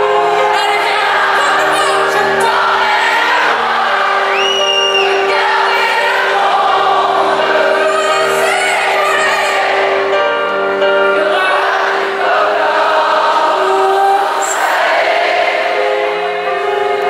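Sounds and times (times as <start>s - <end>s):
many voices singing together: 0.0s - 17.0s
piano: 0.0s - 17.0s.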